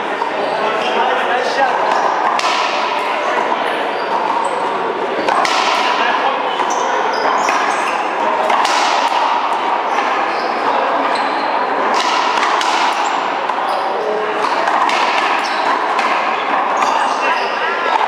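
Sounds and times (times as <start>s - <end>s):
sneakers squeaking: 0.0s - 18.0s
racquet hitting ball: 1.9s - 18.0s.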